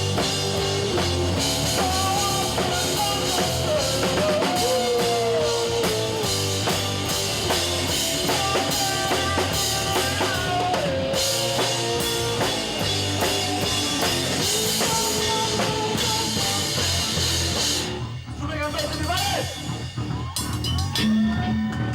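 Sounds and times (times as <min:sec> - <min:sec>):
drum kit beat: 0:00.0 - 0:21.9
live rock band playing: 0:00.0 - 0:21.9.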